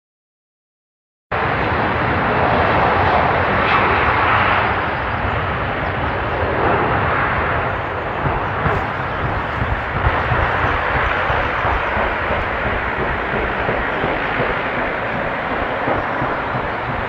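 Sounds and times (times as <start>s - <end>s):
jet engines rushing: 1.3s - 17.0s.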